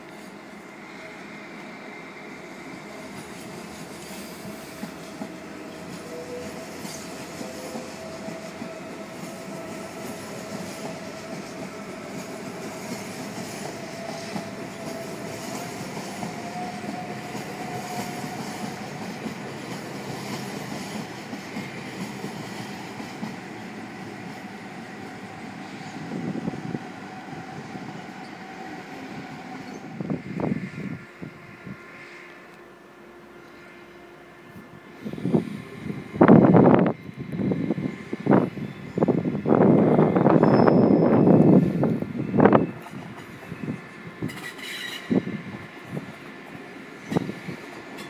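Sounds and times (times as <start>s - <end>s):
thin whining tone: 0.0s - 48.0s
train rumbling: 0.0s - 48.0s.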